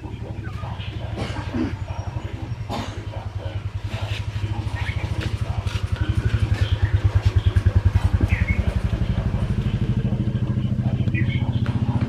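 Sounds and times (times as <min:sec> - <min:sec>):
engine chugging: 0:00.0 - 0:12.0.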